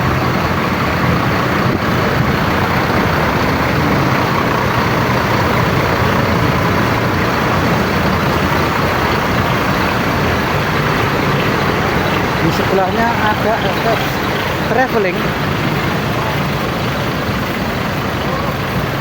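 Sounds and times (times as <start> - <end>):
diesel bus engines idling: 0.0 - 19.0.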